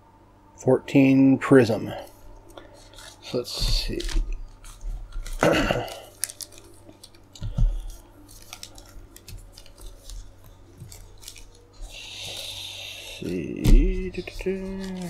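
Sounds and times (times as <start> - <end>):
foil packs crinkling: 1.9 - 15.0.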